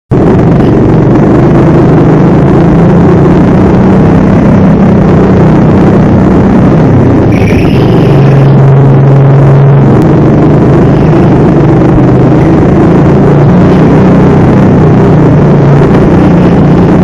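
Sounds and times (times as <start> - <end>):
go-kart engine at high revs: 0.1 - 17.0.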